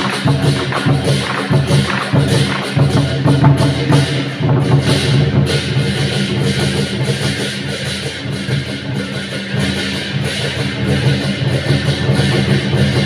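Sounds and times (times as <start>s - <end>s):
lively drum and percussion music: 0.0s - 13.0s.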